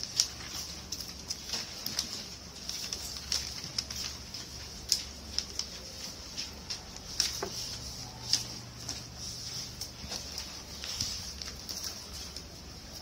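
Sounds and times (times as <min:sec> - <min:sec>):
paper rustling and crackling: 0:00.0 - 0:13.0.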